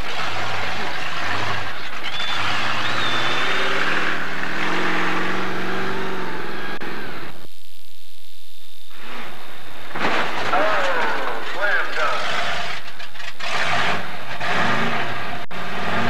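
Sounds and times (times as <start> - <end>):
monster truck engine revving: 0.0 - 7.3, 9.9 - 16.0.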